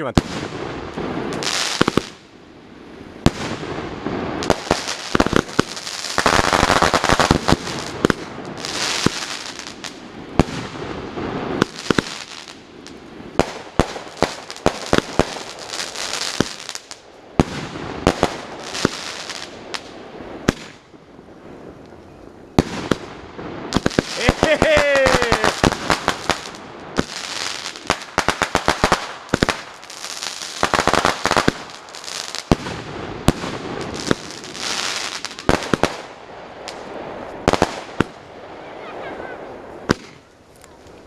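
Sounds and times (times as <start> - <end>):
fireworks bangs: 0.0 - 2.3, 3.2 - 41.0
fireworks crackling: 0.0 - 41.0.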